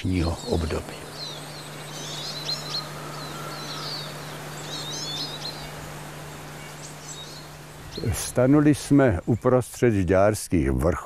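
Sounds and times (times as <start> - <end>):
steady low hum: 0.0 - 10.4
songbirds chirping: 0.0 - 11.0.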